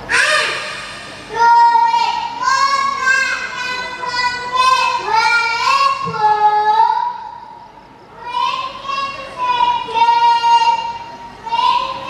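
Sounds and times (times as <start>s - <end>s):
boy chanting: 0.1s - 7.5s, 8.1s - 12.0s.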